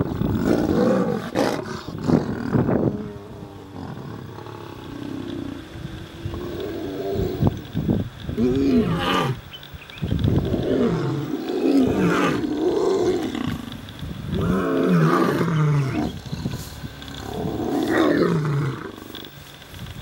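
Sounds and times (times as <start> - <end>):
lions roaring: 0.0 - 7.6, 8.4 - 9.4, 10.5 - 13.8, 14.4 - 19.1.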